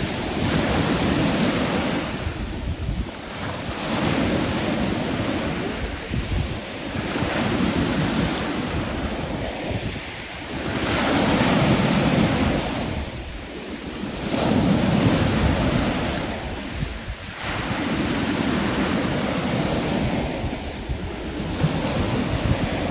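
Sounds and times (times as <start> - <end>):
sea waves washing in: 0.0 - 22.9
wind rumbling on microphone: 0.0 - 22.9.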